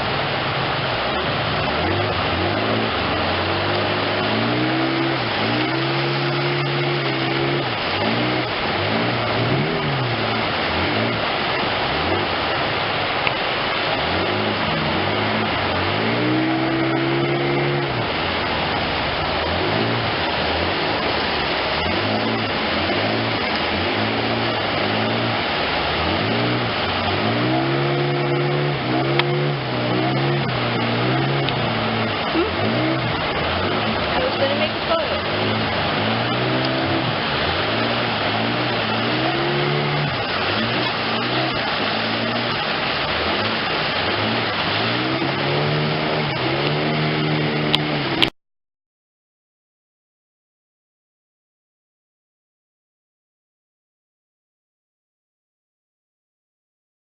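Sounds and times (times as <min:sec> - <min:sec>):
engine revving: 0:00.0 - 0:48.3
outboard motor running: 0:00.0 - 0:48.3
steady rush of noise: 0:00.0 - 0:48.3.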